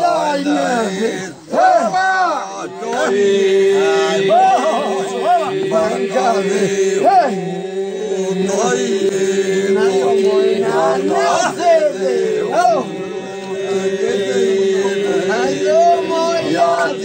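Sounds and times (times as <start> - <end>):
men singing polyphonic folk song: 0.0 - 17.0.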